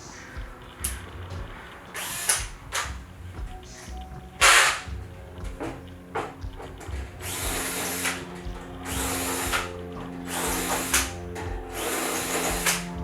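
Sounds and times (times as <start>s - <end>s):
power drill bursts: 1.8s - 3.1s, 3.7s - 13.0s.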